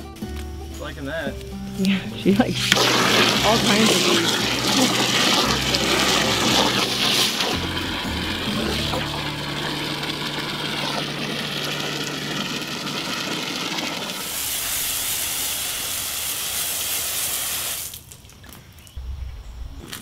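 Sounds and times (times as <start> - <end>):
hose spray nozzle hissing: 1.4 - 18.0.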